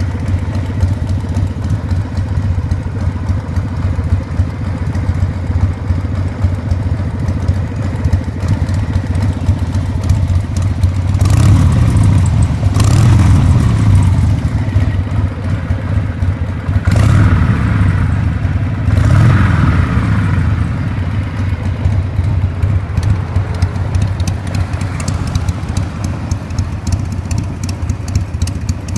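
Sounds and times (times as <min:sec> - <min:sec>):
motorcycle engine idling: 0:00.0 - 0:28.9
motorcycle throttle revving: 0:00.0 - 0:28.9.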